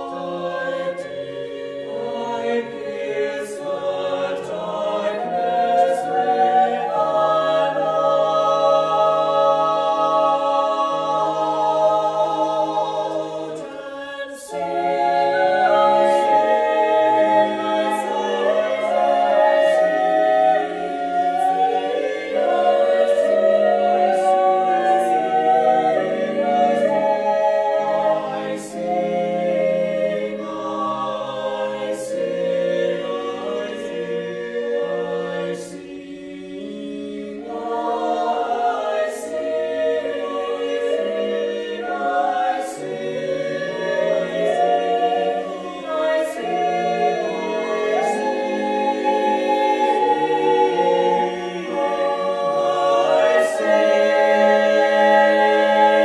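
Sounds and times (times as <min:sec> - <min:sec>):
mixed choir singing chords: 0:00.0 - 0:56.0.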